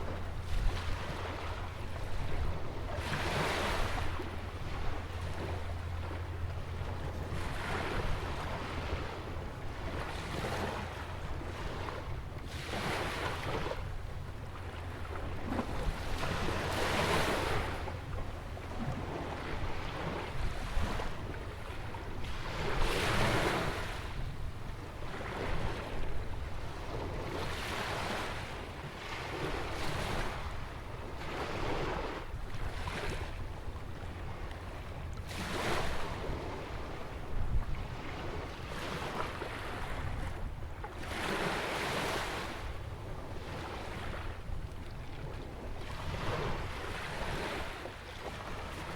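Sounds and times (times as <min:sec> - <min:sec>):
wind rumble on microphone: 0:00.0 - 0:48.9.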